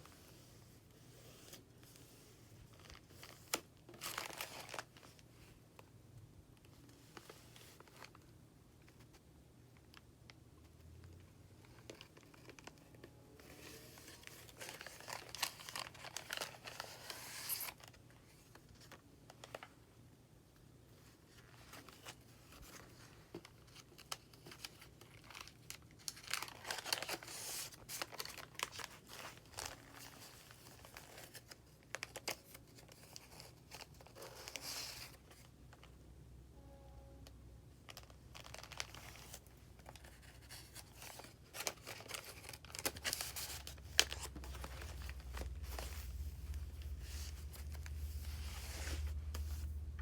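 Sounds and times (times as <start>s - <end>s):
paper rustling and crinkling: 0.0s - 5.9s, 11.5s - 19.8s, 21.0s - 35.9s, 37.9s - 50.0s.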